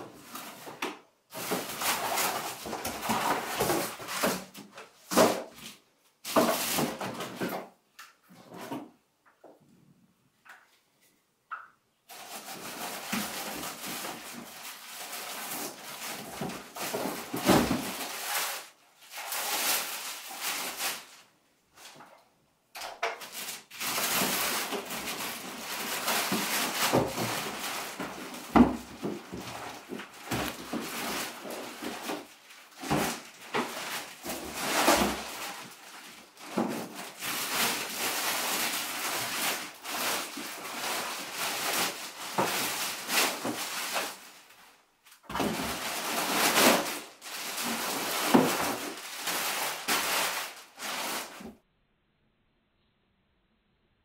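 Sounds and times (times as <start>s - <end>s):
plastic bags rustling: 0.0s - 7.8s, 12.1s - 22.2s, 23.1s - 51.6s.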